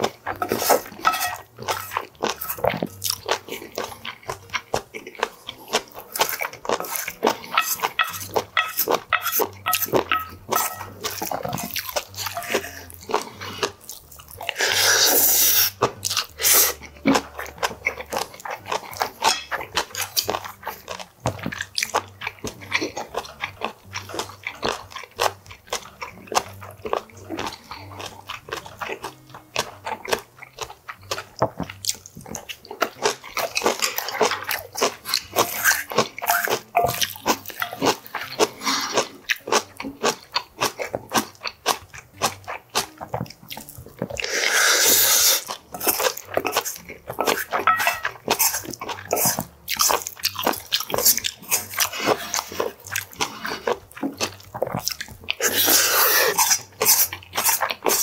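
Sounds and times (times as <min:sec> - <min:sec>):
crunchy chewing clicks: 0:00.0 - 0:58.0
wet chewing: 0:00.0 - 0:58.0.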